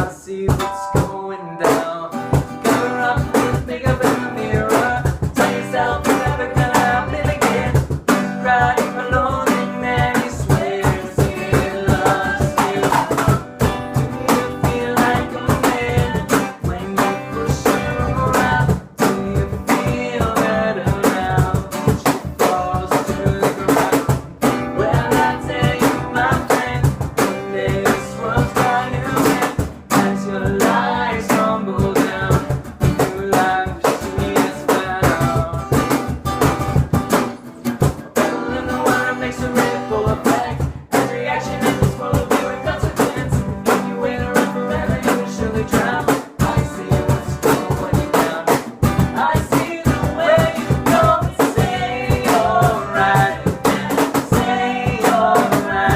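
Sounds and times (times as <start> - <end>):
person singing: 0.0 - 36.1, 38.0 - 55.9
drum kit: 0.0 - 55.9
electric guitar: 0.0 - 55.9.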